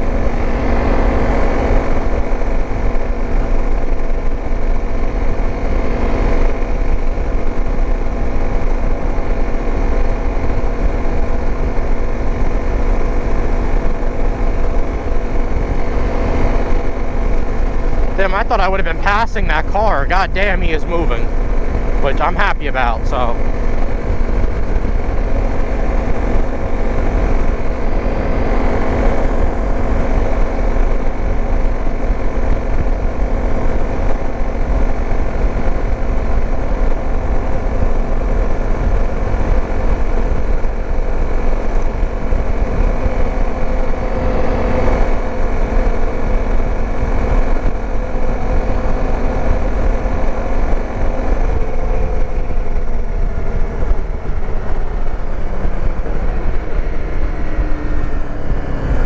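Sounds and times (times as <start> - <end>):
wind rumble on microphone: 0.0 - 18.2, 21.2 - 22.0, 23.4 - 59.0
dirt bike engine running: 0.0 - 20.4, 21.2 - 22.0, 23.4 - 59.0.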